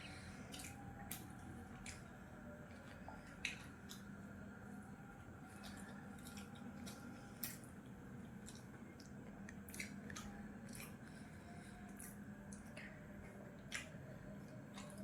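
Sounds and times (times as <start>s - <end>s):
low steady hum: 0.0s - 15.0s
wet mouth clicks and chewing: 0.5s - 4.2s, 5.5s - 15.0s.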